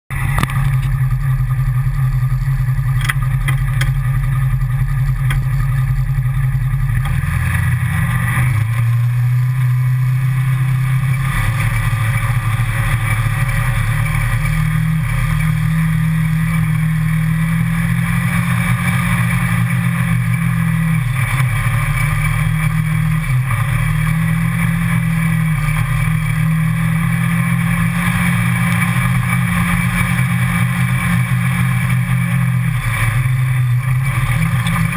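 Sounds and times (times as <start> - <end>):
utility vehicle engine running: 0.1 - 34.9.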